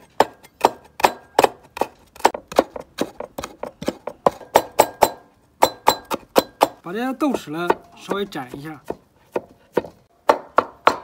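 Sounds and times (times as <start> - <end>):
cleaver chopping on wooden board: 0.0 - 11.0.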